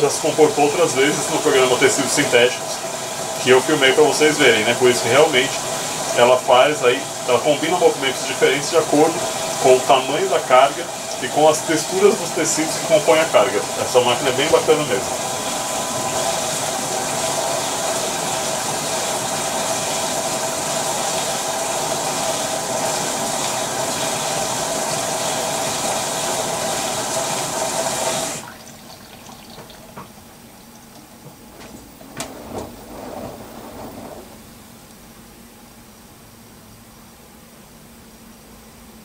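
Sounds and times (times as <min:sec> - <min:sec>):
water rushing through washing machine: 0:00.0 - 0:35.9.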